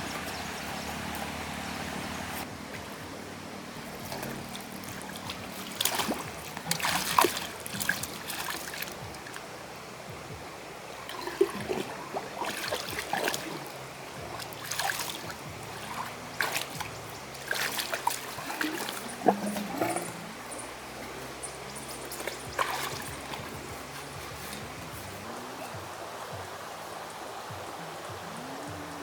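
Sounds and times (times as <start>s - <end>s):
water splashing and dribbling: 0.0s - 29.0s.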